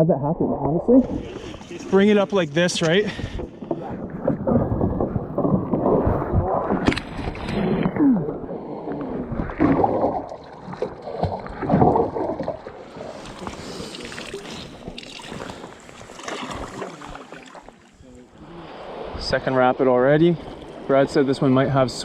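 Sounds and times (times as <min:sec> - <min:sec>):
water splashing and sloshing: 0:00.6 - 0:22.0.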